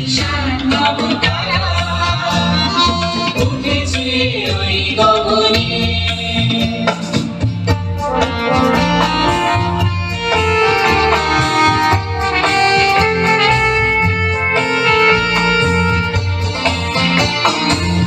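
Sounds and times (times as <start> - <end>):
instrumental dance music: 0.0 - 18.0.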